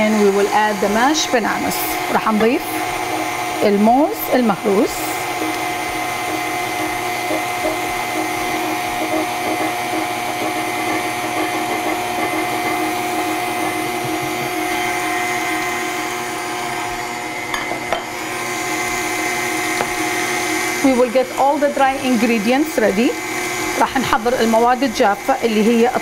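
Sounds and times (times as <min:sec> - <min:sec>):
electric mixer motor hum: 0:00.0 - 0:26.0.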